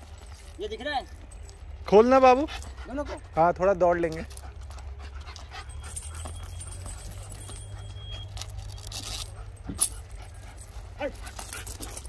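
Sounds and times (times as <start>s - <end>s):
metal chain clinking and rattling: 0.0s - 12.0s.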